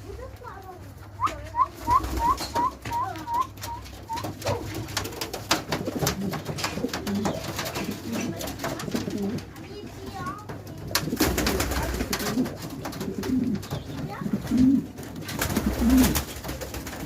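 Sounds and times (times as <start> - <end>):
wings fluttering: 0.1 - 17.0
pigeons cooing: 1.0 - 17.0.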